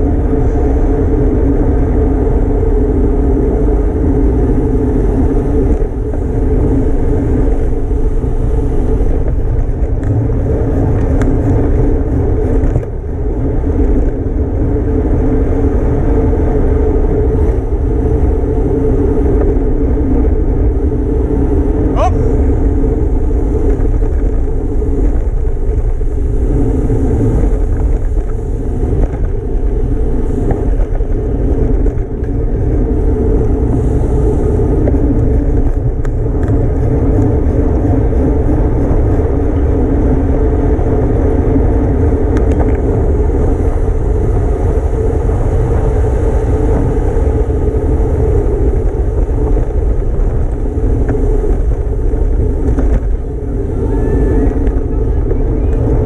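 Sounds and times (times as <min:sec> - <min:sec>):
bicycle tyre noise: 0:00.0 - 0:56.0
wind rush: 0:00.0 - 0:56.0.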